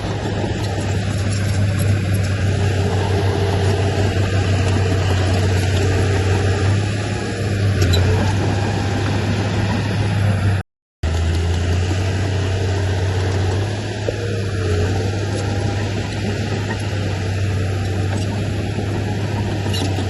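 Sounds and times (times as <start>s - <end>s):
heavy diesel engine humming: 0.0s - 20.0s.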